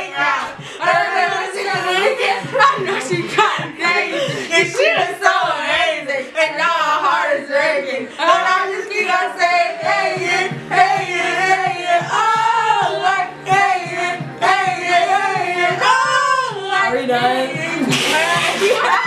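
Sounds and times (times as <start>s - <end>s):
women singing a pop song: 0.0s - 19.0s.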